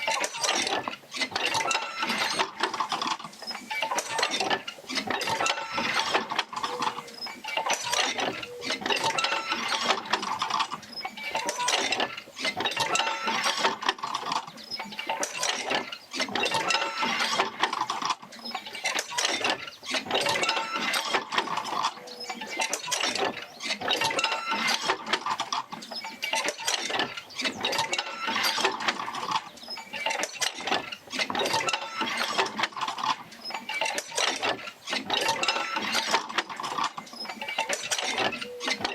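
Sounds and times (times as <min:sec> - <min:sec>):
wooden and iron linkages clanking: 0:00.0 - 0:38.9.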